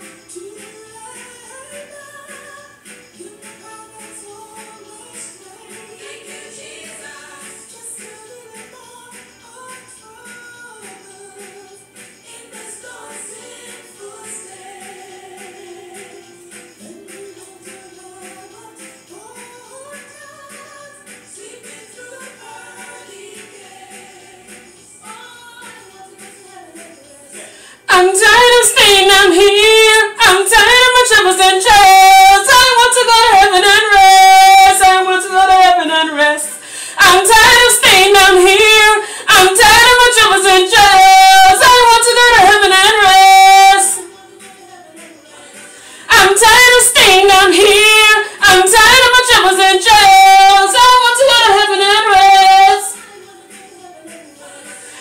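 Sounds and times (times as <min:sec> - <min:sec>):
faint music: 0:00.0 - 0:55.0
woman singing solo: 0:00.0 - 0:55.0.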